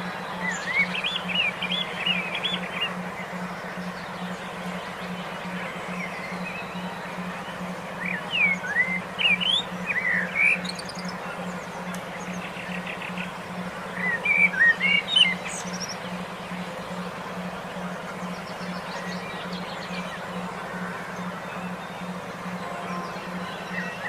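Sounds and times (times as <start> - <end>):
pulsing low hum: 0.0 - 24.0
songbirds chirping and whistling: 0.0 - 24.0.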